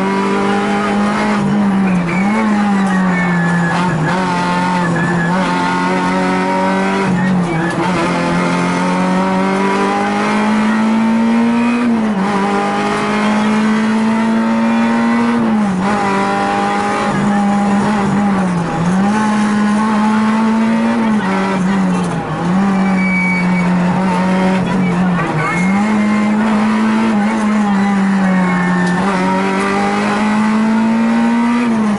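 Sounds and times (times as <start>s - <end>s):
rally car engine at high revs: 0.0s - 31.9s.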